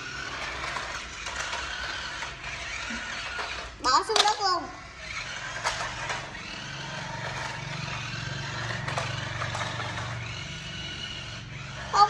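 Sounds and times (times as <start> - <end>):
plastic wheels rolling on tile: 0.0 - 12.0
toy car motor whirring: 0.0 - 12.0.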